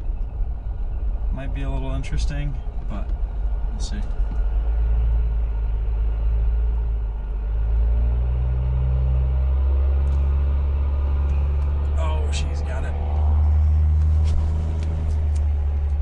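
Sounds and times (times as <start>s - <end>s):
diesel engine labouring: 0.0s - 16.0s.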